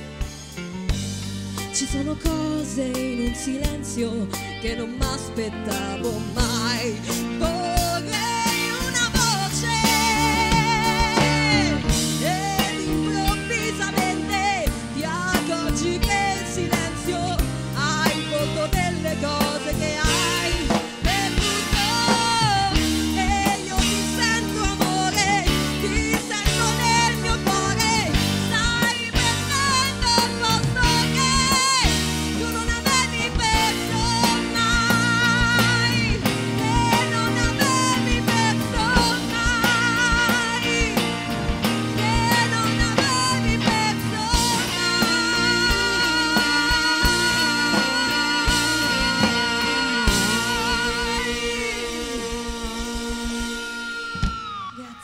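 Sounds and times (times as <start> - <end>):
band with drums and guitar: 0.0 - 55.0
woman singing into microphone: 1.6 - 55.0.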